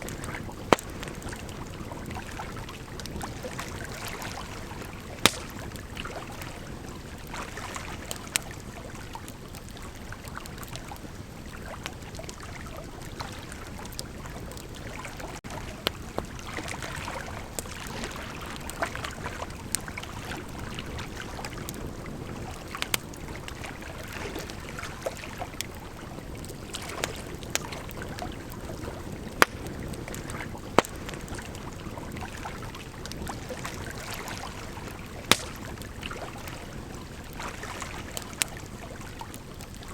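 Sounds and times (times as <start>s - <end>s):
wood crackling and popping: 0.0s - 39.9s.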